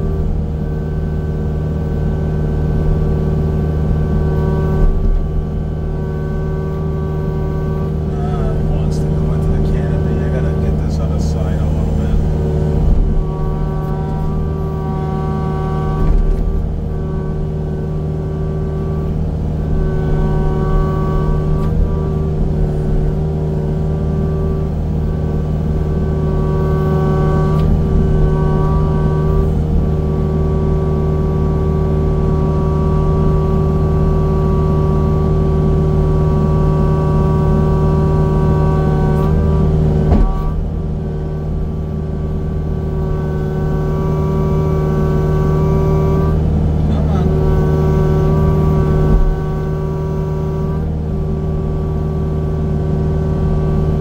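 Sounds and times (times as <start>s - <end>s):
heavy machinery engine droning: 0.0s - 54.0s.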